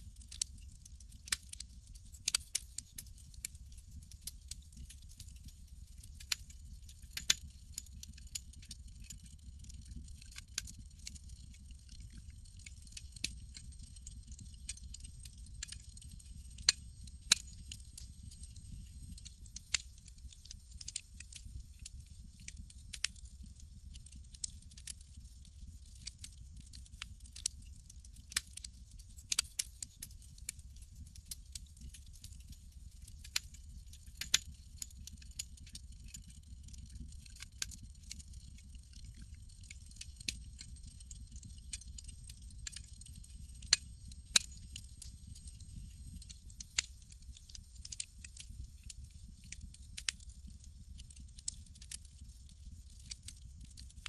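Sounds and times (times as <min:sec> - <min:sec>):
campfire crackling and popping: 0:00.1 - 0:33.5, 0:34.2 - 0:54.0.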